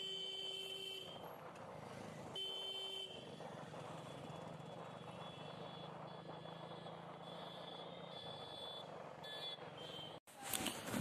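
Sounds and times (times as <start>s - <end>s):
motorcycle engine and road noise: 0.0s - 11.0s.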